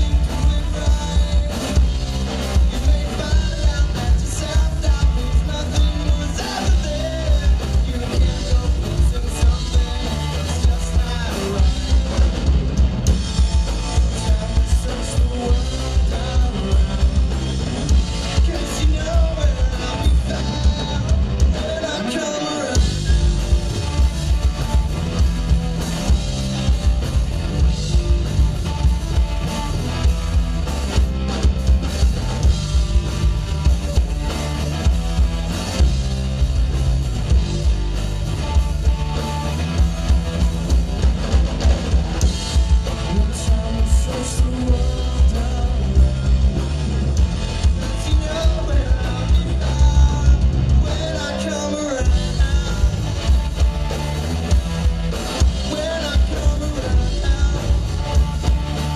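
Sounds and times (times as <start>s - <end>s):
drum kit: 0.0s - 58.9s
electric bass: 0.0s - 58.9s
electric guitar: 0.0s - 58.9s.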